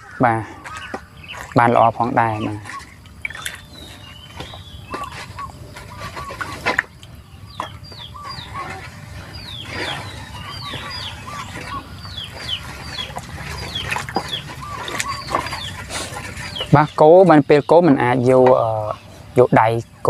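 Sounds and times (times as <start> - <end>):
chickens clucking: 0.0 - 20.0
chickens peeping: 0.0 - 20.0
stick stirring liquid in metal bowl: 0.7 - 17.4.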